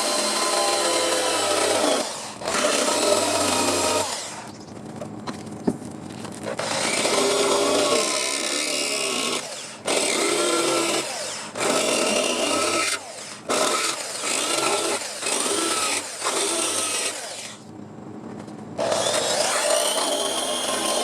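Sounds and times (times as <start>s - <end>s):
power tool on sheet metal: 0.0s - 4.5s, 6.5s - 17.7s, 18.8s - 21.0s.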